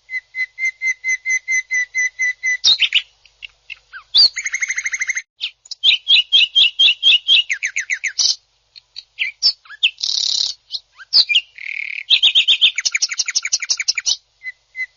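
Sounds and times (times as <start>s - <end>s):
bird singing rapid rough song: 0.0s - 14.9s.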